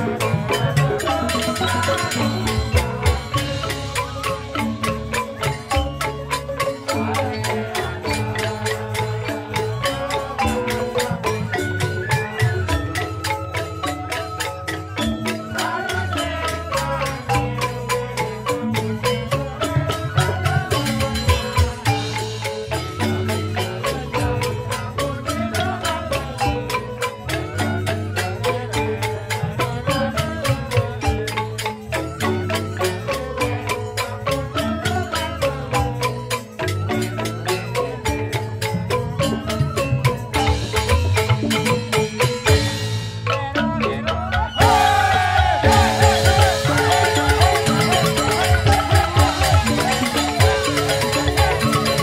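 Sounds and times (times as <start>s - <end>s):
bamboo xylophones gamelan: 0.0s - 52.0s.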